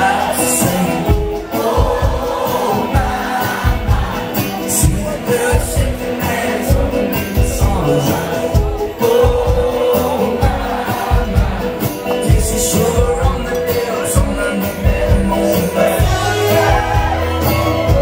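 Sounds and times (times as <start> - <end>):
acoustic and electric guitars: 0.0 - 18.0
drums: 0.0 - 18.0
person singing: 0.0 - 18.0.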